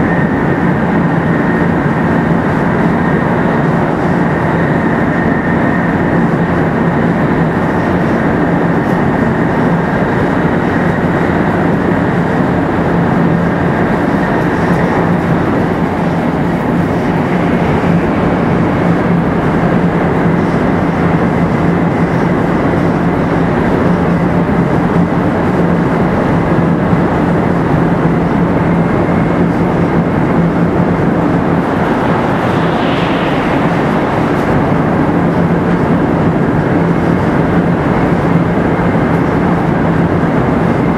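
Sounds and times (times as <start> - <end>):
steady low hum: 0.0 - 40.9
train rolling and wind noise: 0.0 - 40.9.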